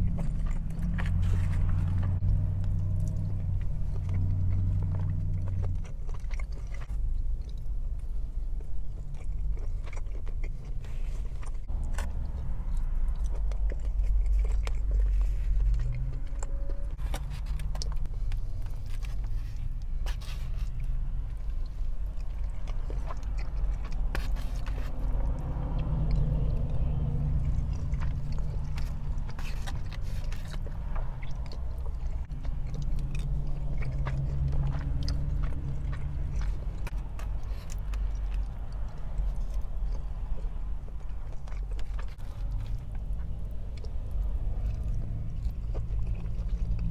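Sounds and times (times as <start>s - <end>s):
low rumble: 0.0s - 46.9s
person chewing food: 0.0s - 46.9s.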